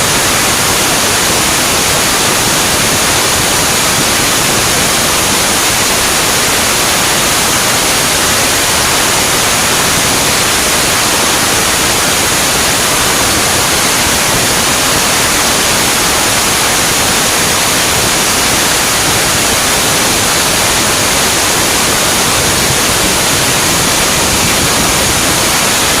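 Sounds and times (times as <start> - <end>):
loud steady hiss: 0.0 - 26.0.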